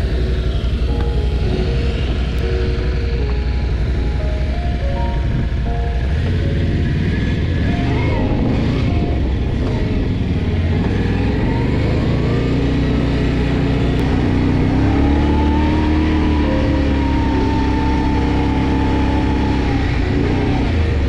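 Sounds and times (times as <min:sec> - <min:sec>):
quad bike engine rumbling: 0:00.0 - 0:21.0.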